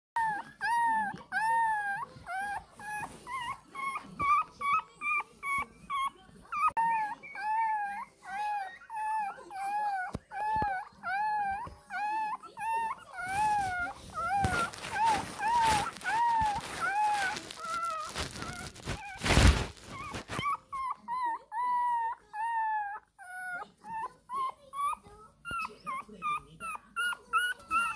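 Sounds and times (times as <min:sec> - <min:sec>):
puppy whining: 0:00.2 - 0:27.9.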